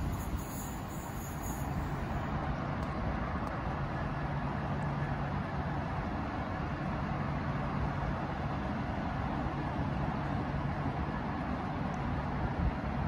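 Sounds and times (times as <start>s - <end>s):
electric train running past: 0.0s - 12.9s.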